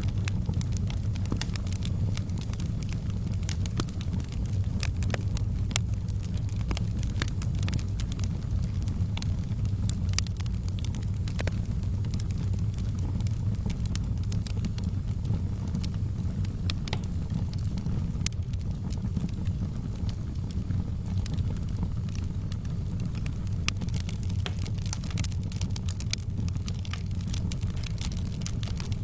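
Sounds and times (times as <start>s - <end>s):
fire crackling and popping: 0.0s - 29.0s
fire low rumble: 0.0s - 29.0s.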